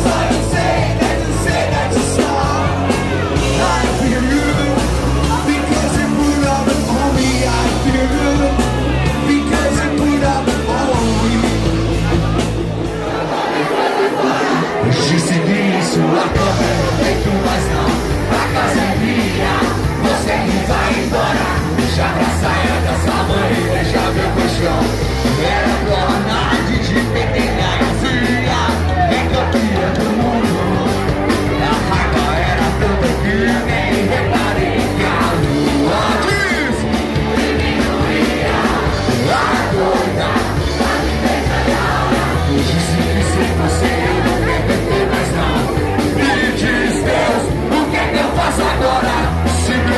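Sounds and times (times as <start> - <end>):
person singing into a microphone: 0.0 - 12.2, 14.3 - 36.8, 38.9 - 49.9
live rock band playing: 0.0 - 49.9.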